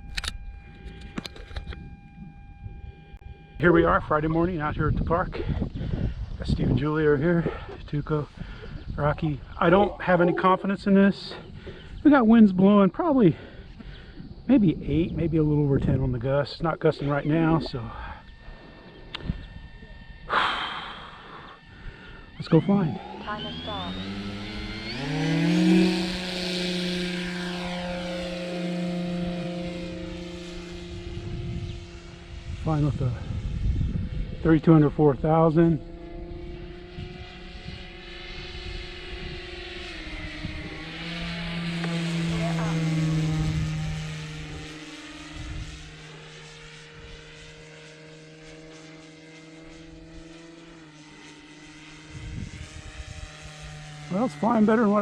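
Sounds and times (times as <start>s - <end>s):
model plane propellers droning: 0.0s - 55.0s.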